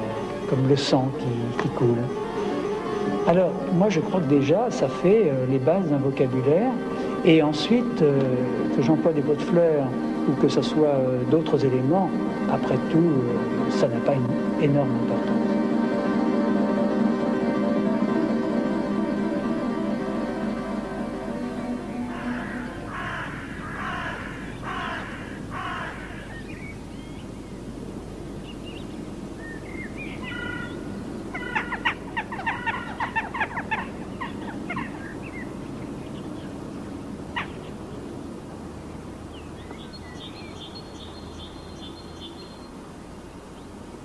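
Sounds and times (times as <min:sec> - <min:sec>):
harsh bird calls: 0:00.0 - 0:15.7, 0:21.2 - 0:27.7, 0:28.3 - 0:38.2, 0:38.9 - 0:43.8
birds calling: 0:00.0 - 0:44.0.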